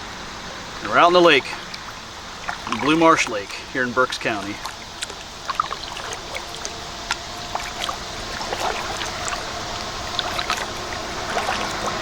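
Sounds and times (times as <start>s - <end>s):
small drips and splashes: 0.0s - 12.0s
water lapping against hull: 0.0s - 12.0s.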